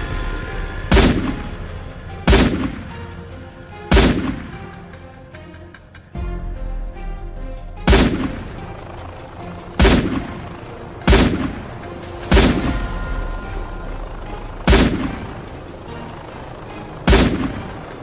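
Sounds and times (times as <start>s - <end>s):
gunshots with echo: 0.0s - 4.9s, 7.9s - 18.0s
background music: 0.0s - 18.0s.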